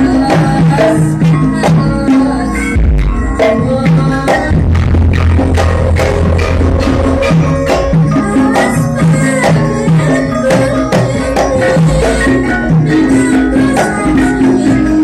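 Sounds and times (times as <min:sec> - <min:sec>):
drums and percussion beat: 0:00.0 - 0:15.0
traditional-style music: 0:00.0 - 0:15.0.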